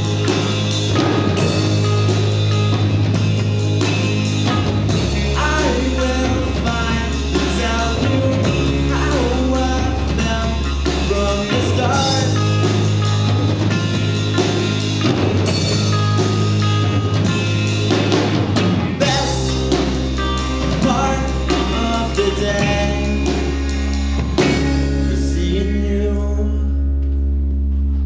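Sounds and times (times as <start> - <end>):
rock band playing live: 0.0 - 27.6.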